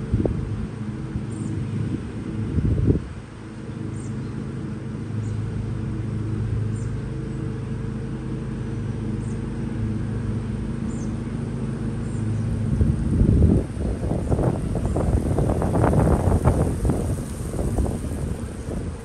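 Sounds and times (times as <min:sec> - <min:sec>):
lawn tractor engine running: 0:03.4 - 0:19.0.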